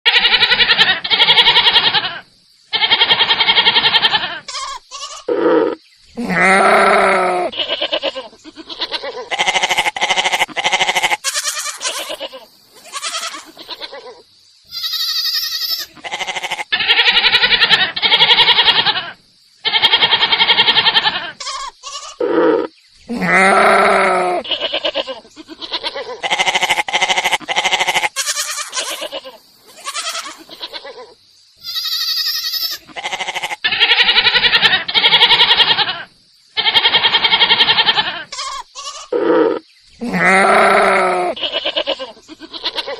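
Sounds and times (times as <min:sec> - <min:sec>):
goats bleating: 0:00.1 - 0:14.1, 0:14.7 - 0:42.9.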